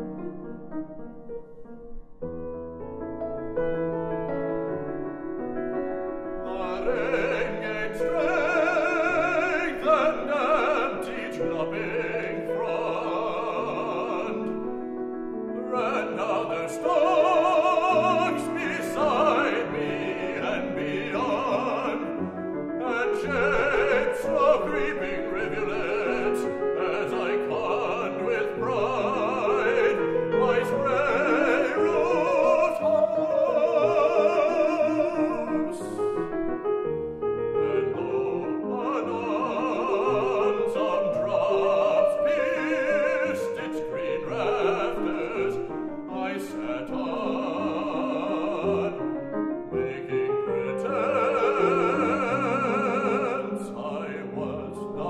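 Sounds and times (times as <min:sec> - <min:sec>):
piano accompaniment: 0:00.0 - 0:55.0
baritone singing: 0:06.3 - 0:55.0.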